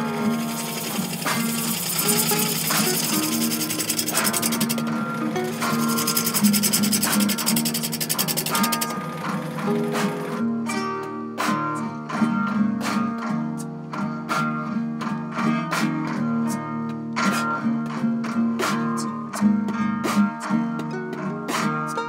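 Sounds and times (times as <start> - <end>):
acoustic guitar plucking: 0.0 - 22.0.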